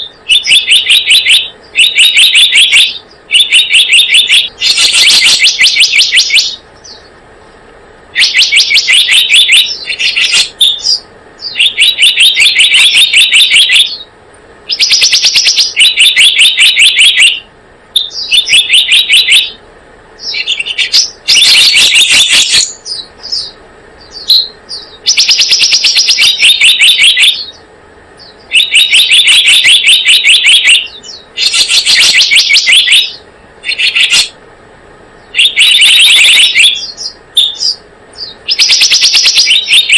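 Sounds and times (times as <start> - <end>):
bird calling with rapid high chirps: 0.0 - 19.6, 20.2 - 34.4, 35.1 - 39.9.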